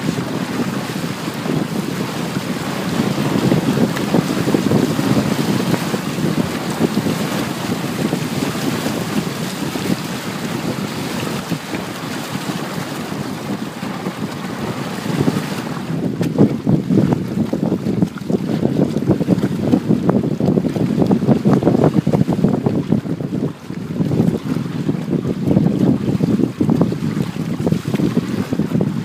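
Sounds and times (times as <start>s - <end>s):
water splashing along hull: 0.0s - 29.0s
wind buffeting microphone: 0.0s - 29.0s.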